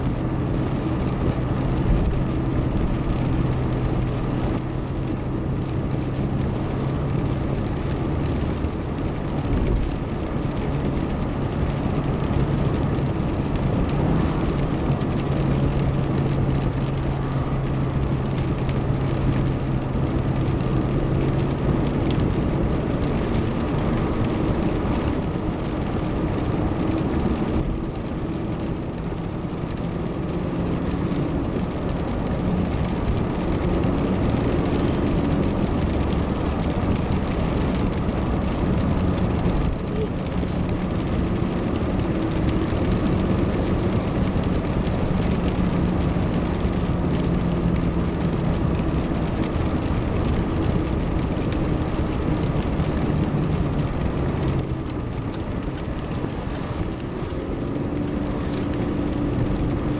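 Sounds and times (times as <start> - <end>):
car engine hum: 0.0 - 59.9
tyre and road noise: 0.0 - 59.9.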